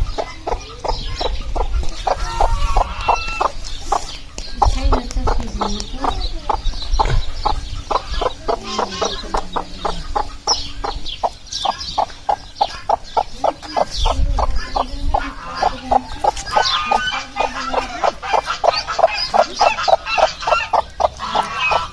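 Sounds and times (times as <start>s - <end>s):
hens clucking: 0.0s - 21.9s
higher hen calls: 0.0s - 21.9s.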